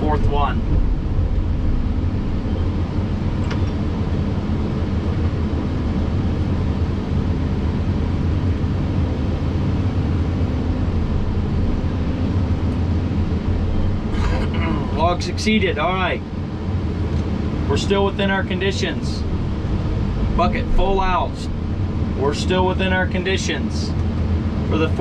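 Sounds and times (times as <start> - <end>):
excavator diesel engine and hydraulics: 0.0 - 25.0.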